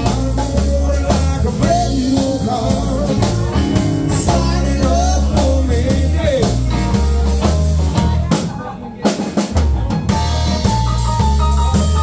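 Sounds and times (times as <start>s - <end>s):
low bass notes: 0.0s - 8.4s, 9.8s - 12.0s
electric guitar: 0.0s - 8.6s, 9.6s - 12.0s
drum kit: 0.0s - 12.0s.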